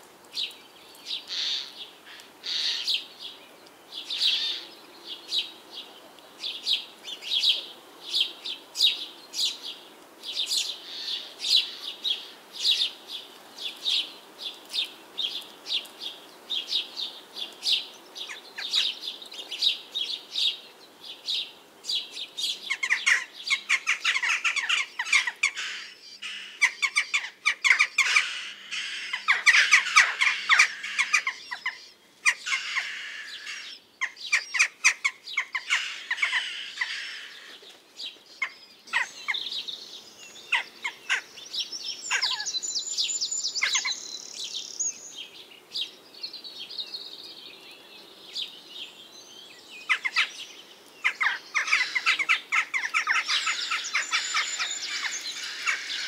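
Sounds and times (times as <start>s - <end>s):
birds chirping: 0.0s - 56.0s
busy bird chatter: 0.2s - 56.0s.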